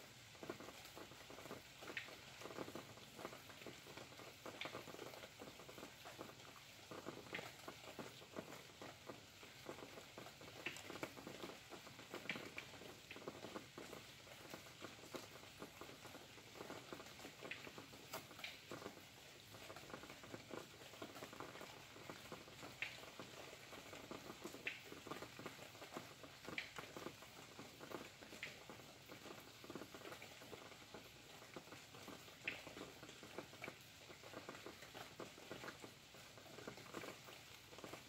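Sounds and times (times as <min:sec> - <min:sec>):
faint rain pattering: 0:00.0 - 0:38.0.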